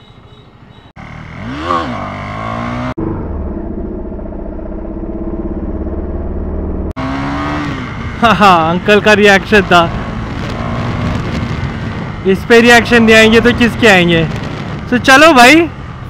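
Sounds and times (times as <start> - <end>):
motorcycle engine revving: 0.8 - 16.0.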